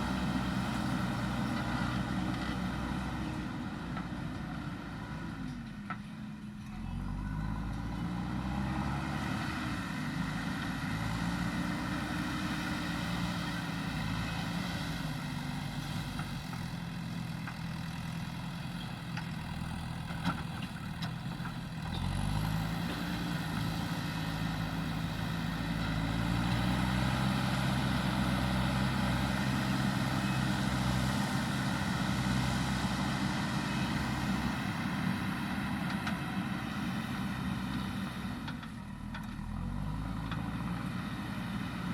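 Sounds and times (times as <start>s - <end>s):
diesel engine revving: 7.0s - 41.9s.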